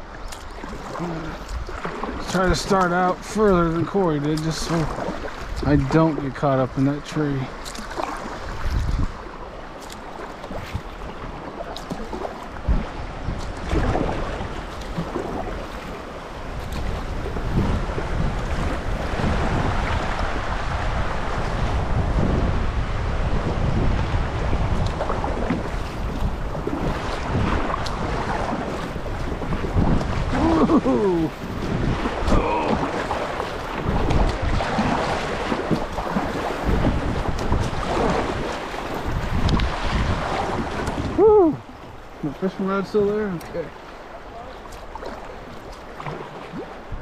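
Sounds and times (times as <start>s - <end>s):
river water rushing: 0.0s - 47.0s
wind on microphone: 0.0s - 47.0s.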